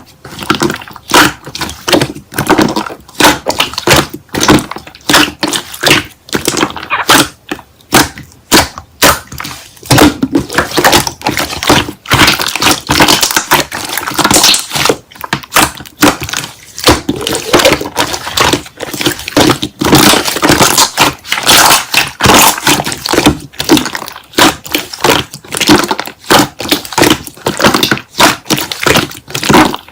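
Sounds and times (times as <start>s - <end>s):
slime squishing and popping: 0.3s - 29.9s.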